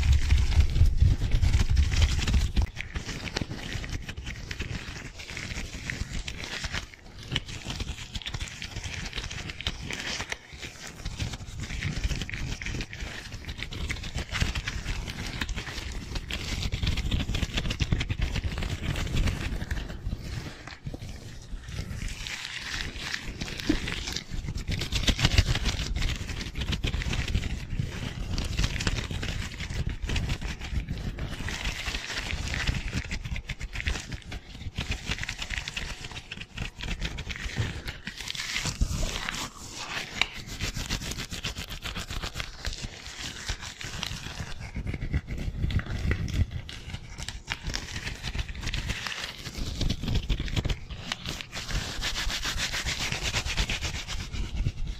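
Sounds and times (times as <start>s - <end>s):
gloved hands rubbing and scrunching: 0.0s - 54.9s.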